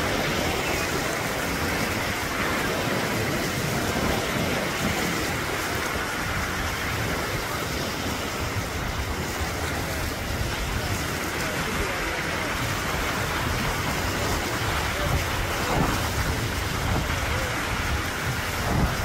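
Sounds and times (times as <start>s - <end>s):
ocean surf breaking: 0.0s - 19.0s
wind on microphone: 0.0s - 19.0s.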